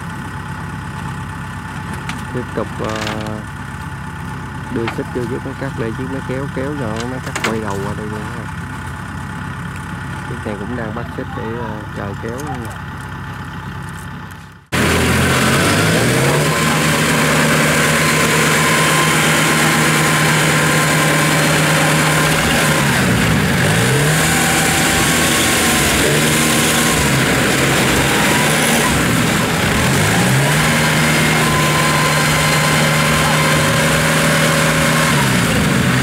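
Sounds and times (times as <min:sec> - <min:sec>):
diesel engines working hard: 0:00.0 - 0:36.0.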